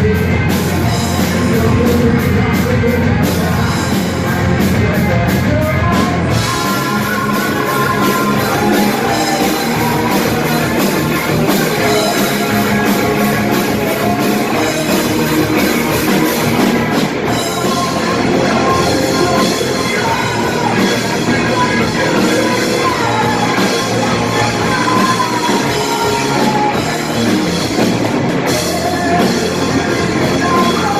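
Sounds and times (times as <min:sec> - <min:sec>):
rock band playing: 0:00.0 - 0:30.9.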